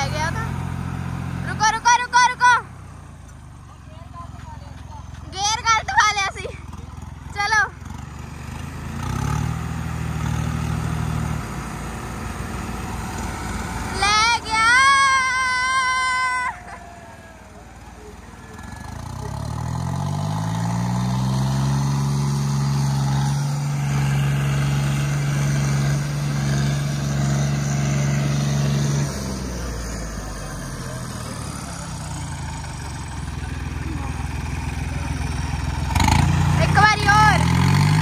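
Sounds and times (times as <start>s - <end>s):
diesel tractor engines revving: 0.0s - 38.0s.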